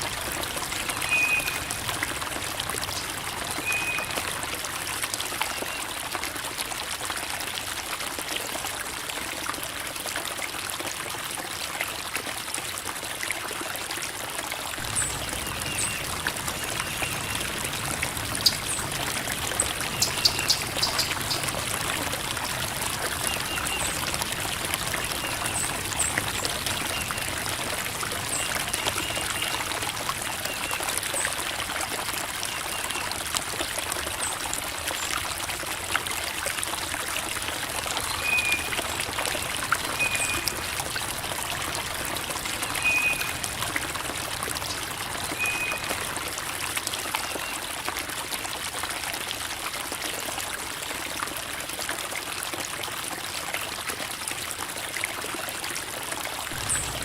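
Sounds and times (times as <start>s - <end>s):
creek water babbling over rocks: 0.0s - 57.0s.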